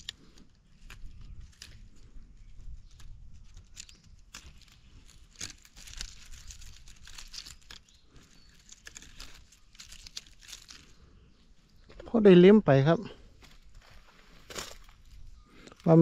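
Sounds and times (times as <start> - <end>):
dry leaves rustling: 0.0 - 11.3, 13.4 - 16.0.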